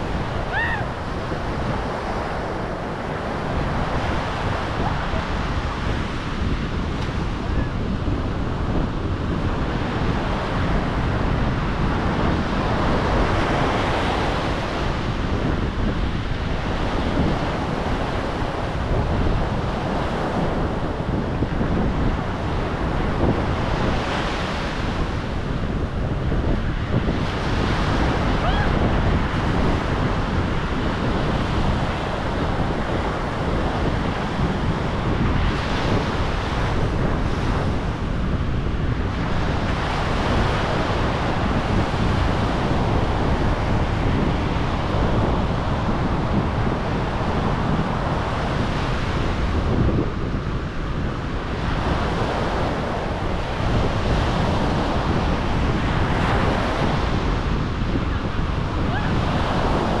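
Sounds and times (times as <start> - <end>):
ocean surf washing: 0.0 - 60.0
wind rumbling on microphone: 0.0 - 60.0.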